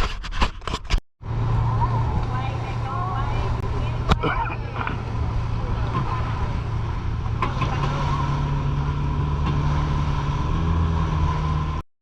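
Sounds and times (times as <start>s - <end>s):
boat engine running: 0.0s - 11.8s.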